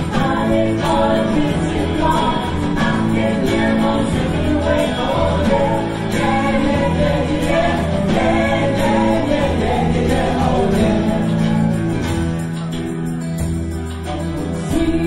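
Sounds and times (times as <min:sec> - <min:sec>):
woman singing: 0:00.0 - 0:11.8, 0:14.6 - 0:15.0
live pop band playing: 0:00.0 - 0:15.0.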